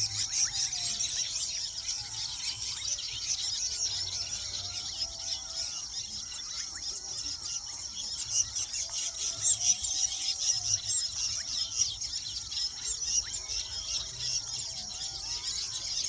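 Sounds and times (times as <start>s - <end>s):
birds chattering: 0.0s - 16.0s.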